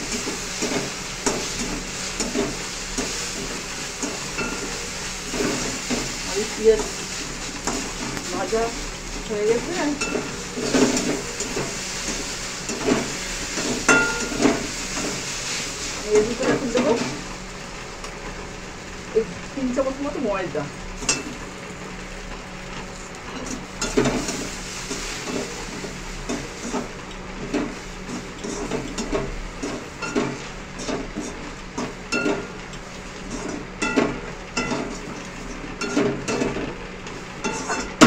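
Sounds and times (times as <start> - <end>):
onions frying sizzle: 0.0 - 38.0.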